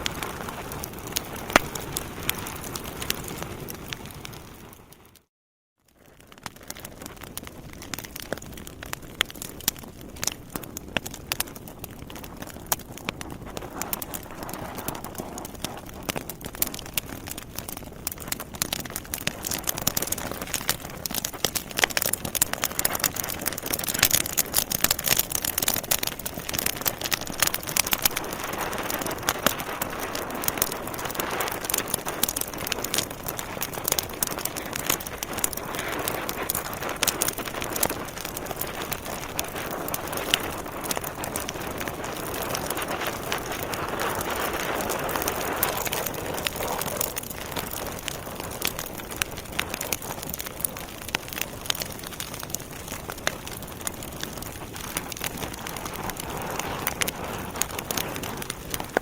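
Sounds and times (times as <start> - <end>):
wood fire crackling and popping: 0.0 - 5.3, 5.9 - 59.0.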